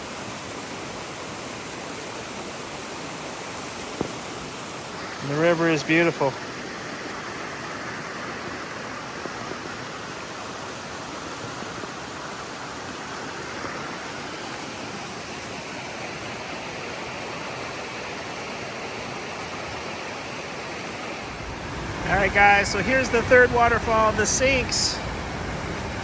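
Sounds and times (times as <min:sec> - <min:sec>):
river water over rocks: 0:00.0 - 0:26.0.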